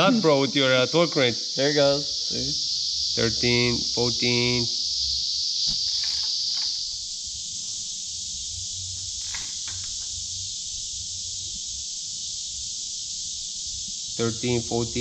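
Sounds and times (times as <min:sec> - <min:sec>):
high-pitched insect chirring: 0:00.0 - 0:15.0.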